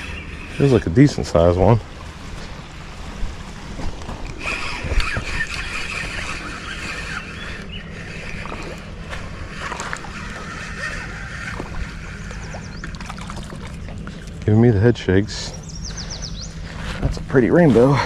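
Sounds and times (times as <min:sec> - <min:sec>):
water sloshing and splashing: 0:00.0 - 0:14.8, 0:15.5 - 0:18.0.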